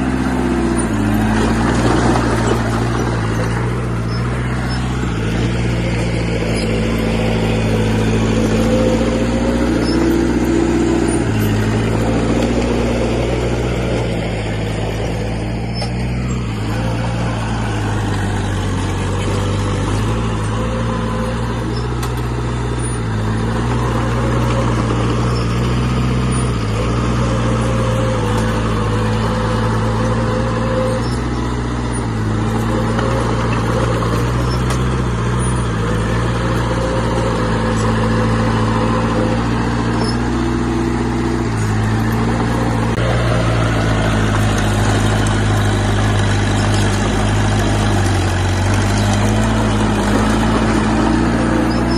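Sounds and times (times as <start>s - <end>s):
heavy diesel engine under load: 0.0s - 51.9s.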